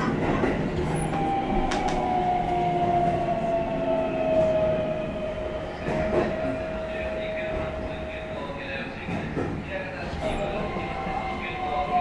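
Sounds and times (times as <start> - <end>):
train wheel and rail noise: 0.0 - 12.0.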